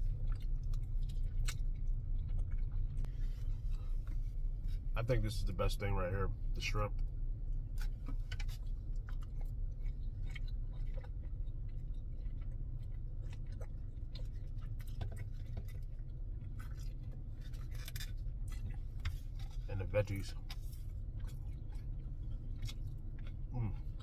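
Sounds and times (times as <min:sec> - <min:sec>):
person chewing food: 0:00.0 - 0:04.9, 0:07.0 - 0:24.0
low hum: 0:00.0 - 0:24.0.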